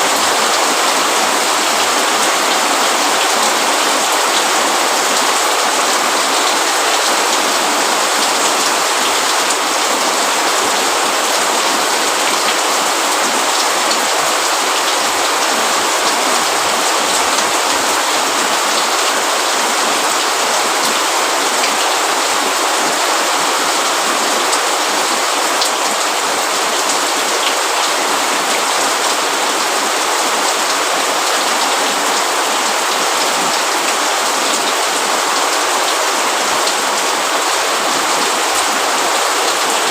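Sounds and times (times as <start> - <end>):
rain on roof and leaves: 0.0 - 39.9.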